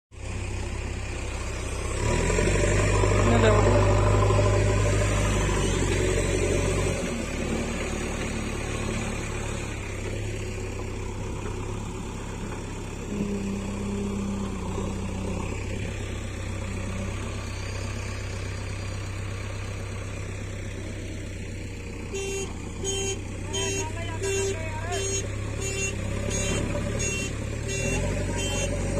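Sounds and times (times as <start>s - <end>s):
tractor diesel engine running: 0.1s - 28.9s.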